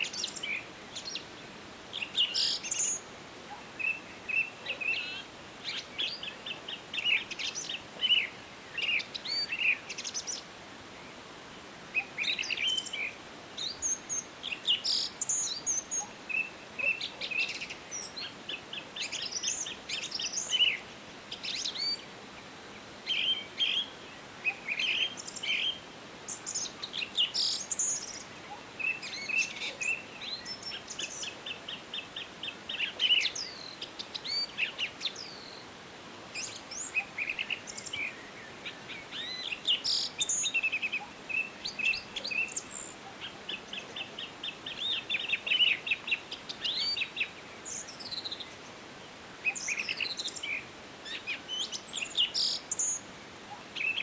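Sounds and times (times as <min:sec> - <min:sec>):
faint forest background hiss: 0:00.0 - 0:54.0
songbirds singing and chirping: 0:00.0 - 0:54.0.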